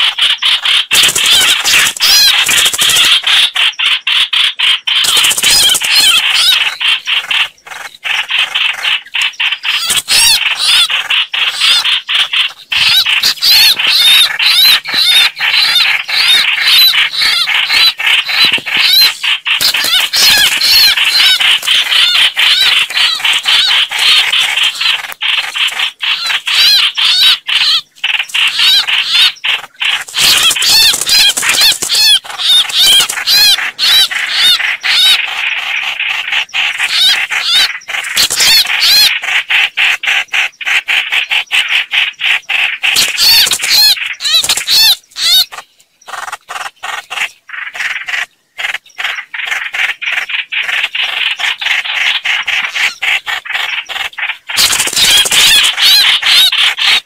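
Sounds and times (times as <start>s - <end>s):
bird distress calls: 0.0s - 57.0s.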